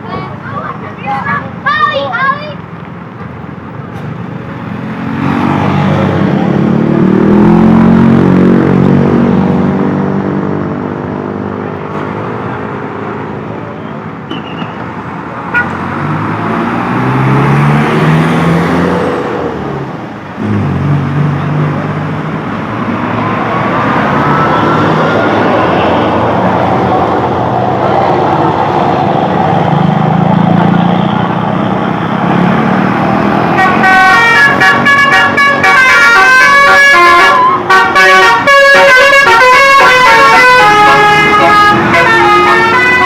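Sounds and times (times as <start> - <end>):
large vehicles passing: 0.0 - 43.0.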